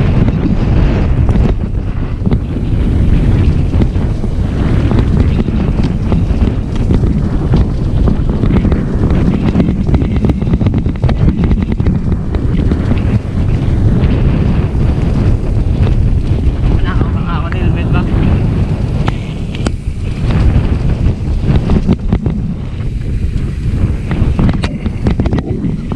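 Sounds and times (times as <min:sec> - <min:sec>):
dirt bike engine rumble: 0:00.0 - 0:25.9
wind buffeting microphone: 0:00.0 - 0:25.9.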